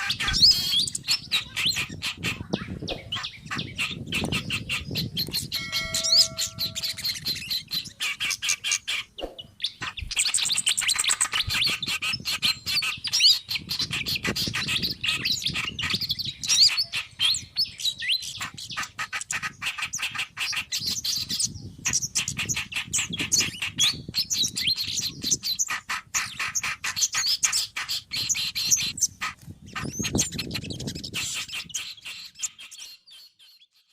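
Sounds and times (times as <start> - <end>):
songbirds chirping and chattering: 0.0 - 33.9.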